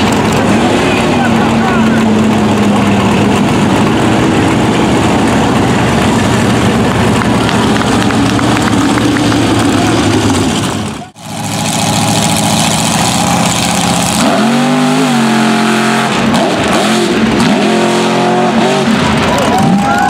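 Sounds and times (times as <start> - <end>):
truck engines running hard: 0.0 - 20.0.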